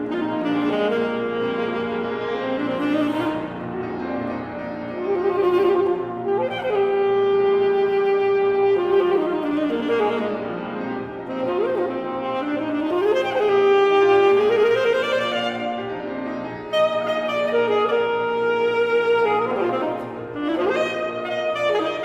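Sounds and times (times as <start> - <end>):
alto saxophone: 0.0 - 22.0
piano: 0.0 - 22.0.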